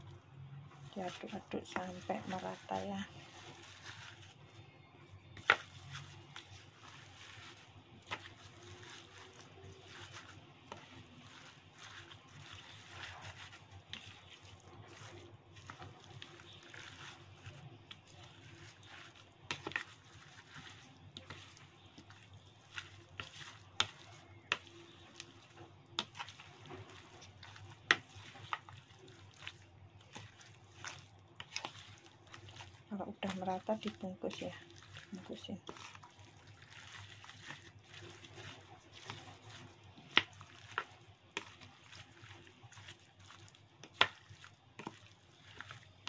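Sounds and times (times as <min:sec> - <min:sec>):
spoon stirring wet paste: 0:00.0 - 0:46.0.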